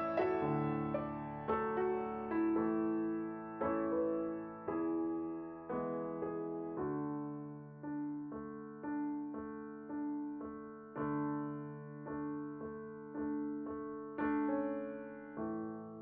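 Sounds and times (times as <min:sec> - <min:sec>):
slow gentle piano: 0:00.0 - 0:16.0.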